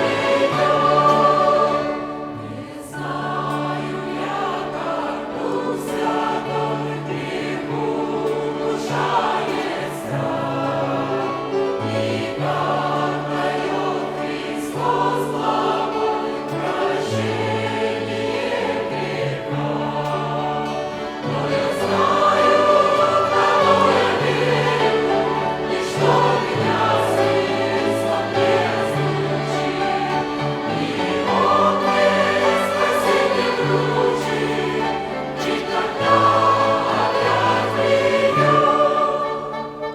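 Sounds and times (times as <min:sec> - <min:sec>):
choir singing a hymn: 0:00.0 - 0:39.9
violin ensemble: 0:00.0 - 0:39.9.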